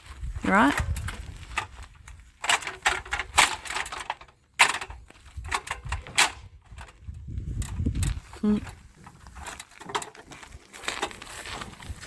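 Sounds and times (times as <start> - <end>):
clattering and knocking of objects: 0.7 - 12.0.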